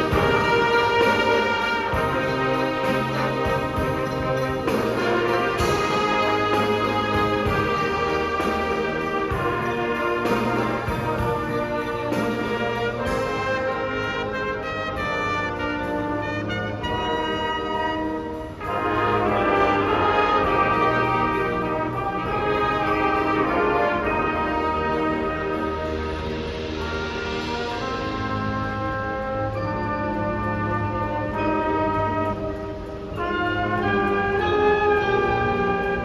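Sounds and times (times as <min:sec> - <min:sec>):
trombones playing held chords: 0:00.0 - 0:36.0
trumpets playing held chords: 0:00.0 - 0:36.0.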